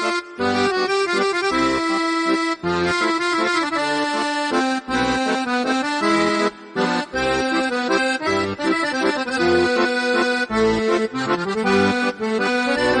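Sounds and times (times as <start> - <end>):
held melodic notes: 0.0 - 13.0.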